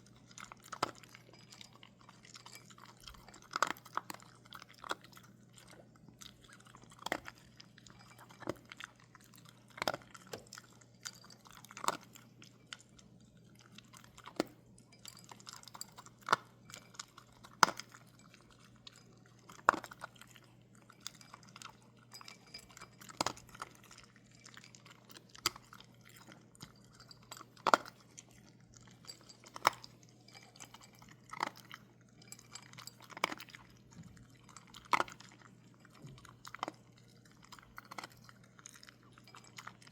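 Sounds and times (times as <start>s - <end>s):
dog crunching food: 0.0s - 39.9s
low steady hum: 0.0s - 39.9s.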